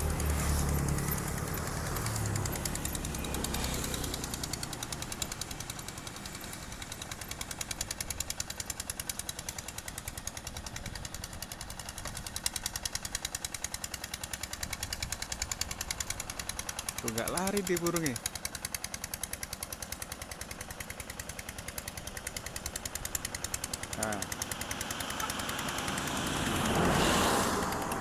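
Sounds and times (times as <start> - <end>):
tractor engine chugging: 0.0 - 28.0.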